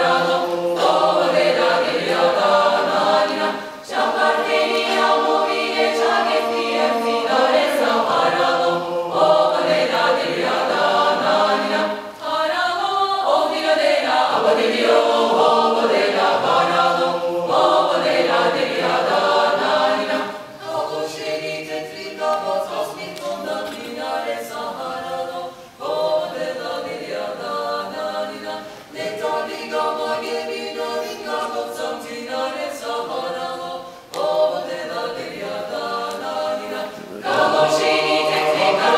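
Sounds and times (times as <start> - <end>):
mixed choir singing a cappella: 0.0 - 38.9.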